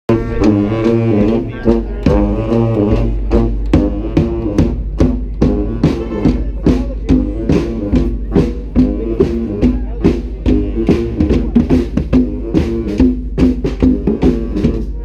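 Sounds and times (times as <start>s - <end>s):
horns playing in harmony: 0.1s - 15.0s
low bass line: 0.1s - 15.0s
steady drumbeat: 0.1s - 15.0s.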